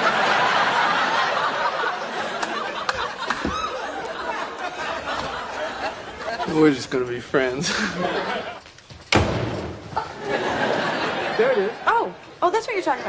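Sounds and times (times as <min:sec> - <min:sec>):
studio audience laughing: 0:00.0 - 0:08.7, 0:09.9 - 0:12.2.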